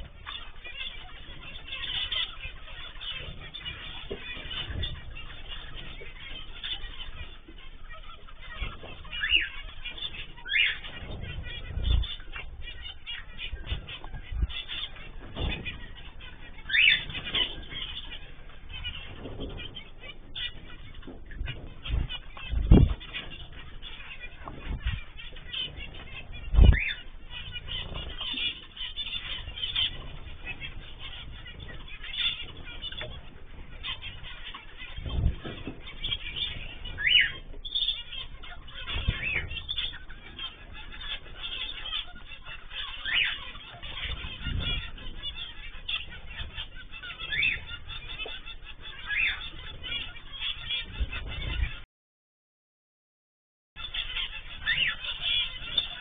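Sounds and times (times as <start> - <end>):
cage birds chirping: 0.0 - 51.9, 53.8 - 56.0.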